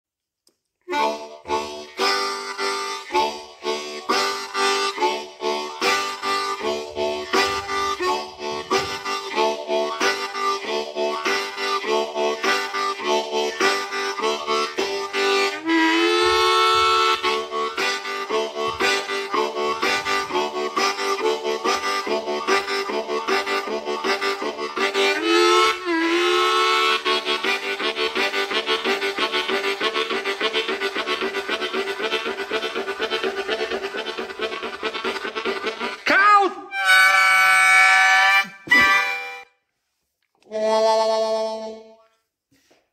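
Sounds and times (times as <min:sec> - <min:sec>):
harmonica bending chord: 0:00.9 - 0:36.1, 0:36.7 - 0:39.6, 0:40.5 - 0:42.1
harmonica chugging chords: 0:00.9 - 0:39.6, 0:40.5 - 0:42.1.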